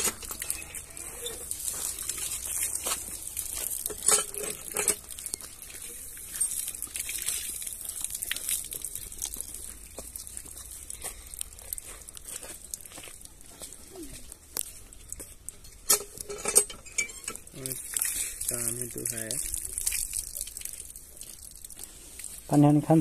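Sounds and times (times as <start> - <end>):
water splashing on concrete: 0.0 - 13.3, 17.4 - 22.8.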